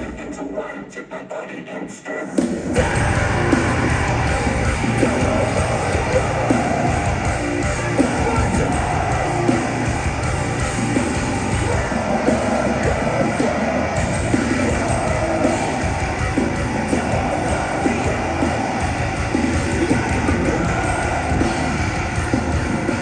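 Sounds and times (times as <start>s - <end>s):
metalcore band playing live: 2.6s - 23.0s.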